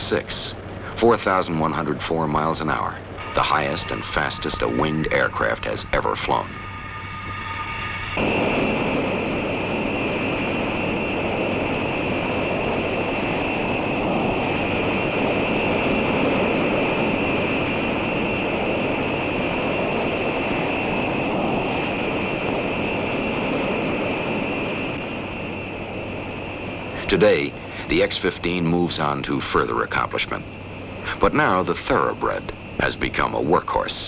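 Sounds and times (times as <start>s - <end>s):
jet engines whining: 0.0s - 34.0s.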